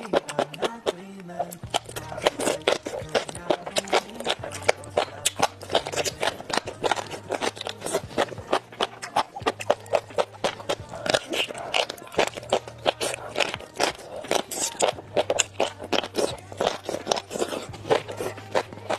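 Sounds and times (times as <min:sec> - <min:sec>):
mouth chewing crunchy food: 0:00.0 - 0:18.9.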